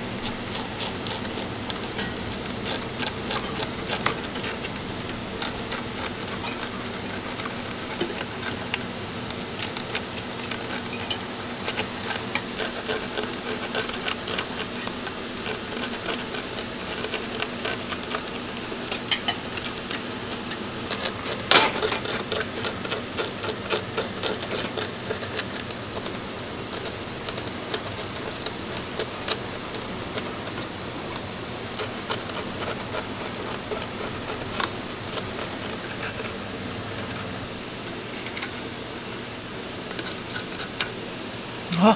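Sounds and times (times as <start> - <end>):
toothpick scratching sugar candy: 0.0 - 37.3, 37.9 - 41.9
candy cracking: 0.1 - 37.2.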